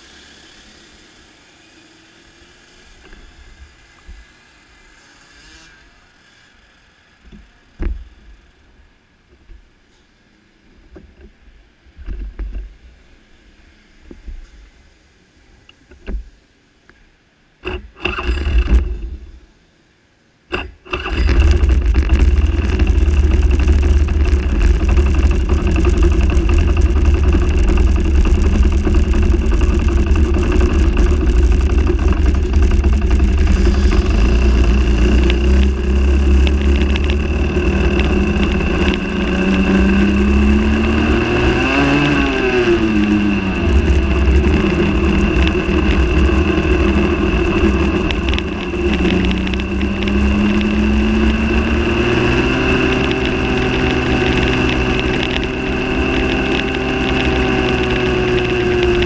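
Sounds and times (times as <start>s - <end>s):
kart engine starting and running: 0.0s - 8.8s, 17.6s - 19.6s, 20.5s - 59.0s.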